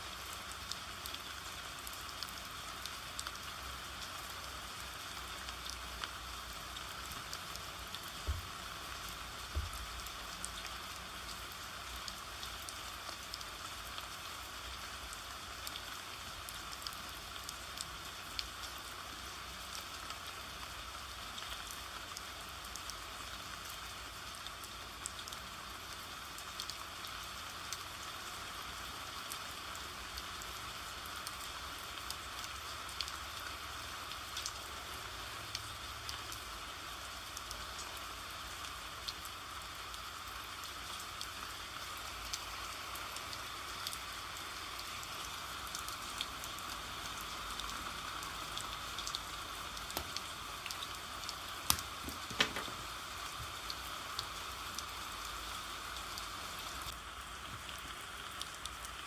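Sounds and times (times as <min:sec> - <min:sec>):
raindrops ticking on a surface: 0:00.0 - 0:59.0
steady rain: 0:00.0 - 0:59.0.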